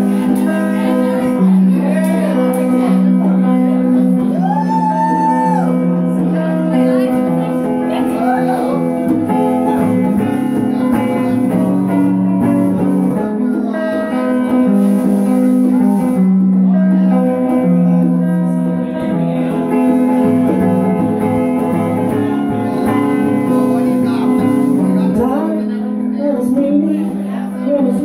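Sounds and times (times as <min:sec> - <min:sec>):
guitar ringing chords: 0:00.0 - 0:28.0.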